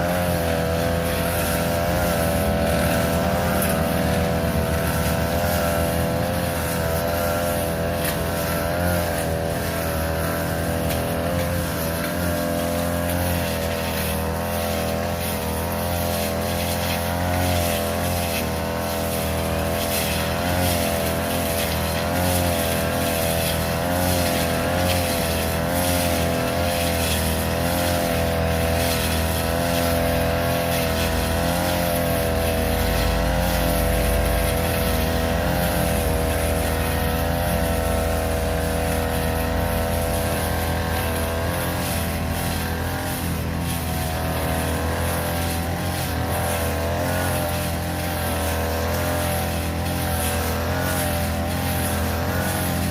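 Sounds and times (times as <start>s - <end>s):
brush cutter engine cutting grass: 0.0s - 52.9s.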